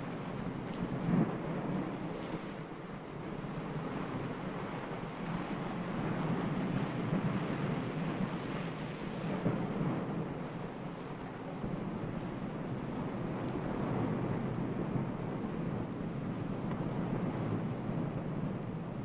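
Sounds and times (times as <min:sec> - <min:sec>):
steady rushing rumble: 0:00.0 - 0:19.0.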